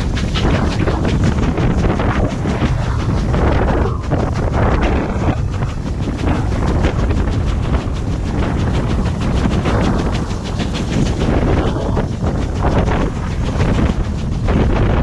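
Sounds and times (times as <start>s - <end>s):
steam locomotive beat: 0.0s - 15.0s
wind buffeting microphone: 0.0s - 15.0s.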